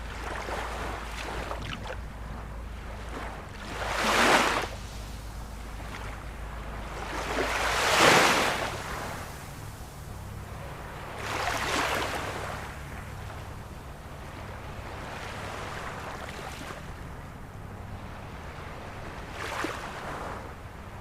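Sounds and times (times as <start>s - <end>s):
ocean waves breaking: 0.0s - 21.0s
steady low rumble: 0.0s - 21.0s.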